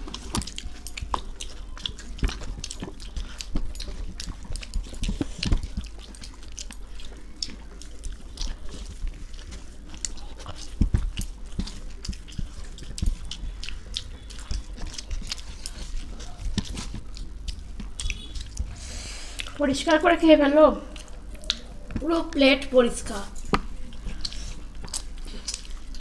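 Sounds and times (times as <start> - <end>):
chewing with wet mouth smacks: 0.0 - 26.0.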